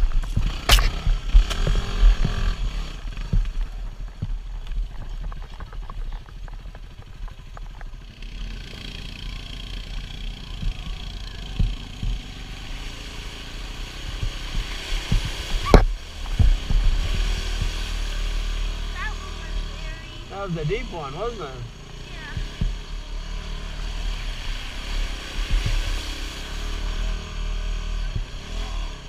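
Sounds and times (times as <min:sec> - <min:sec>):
bike rattling on rough road: 0:00.0 - 0:29.0
motorcycle engine running: 0:00.0 - 0:29.0.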